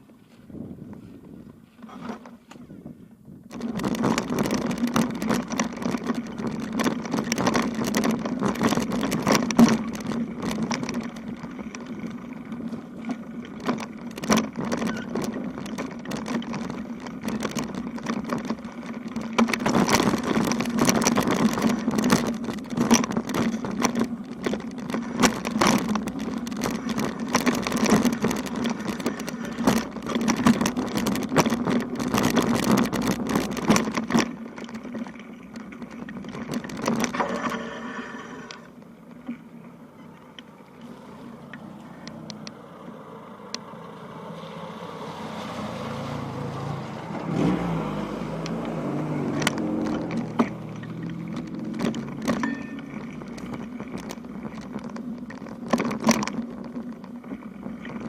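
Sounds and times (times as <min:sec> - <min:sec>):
bicycle rumbling on rough road: 0:00.0 - 0:58.0
small knocks and clicks: 0:03.5 - 0:42.6, 0:47.3 - 0:58.0.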